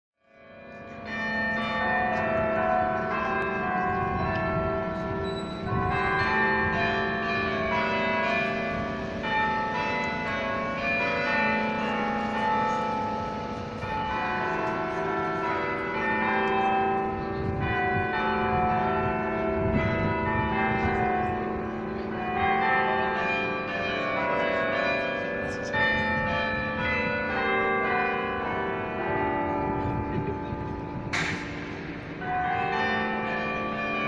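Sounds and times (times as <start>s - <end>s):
carillon bells ringing a tune: 0.4s - 31.2s.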